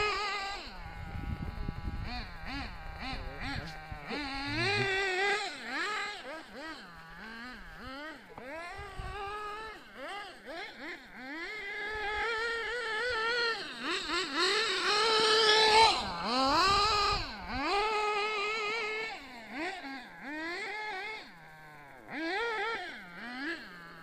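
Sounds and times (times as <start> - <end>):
rc car nitro engine revving: 0.0 - 24.0.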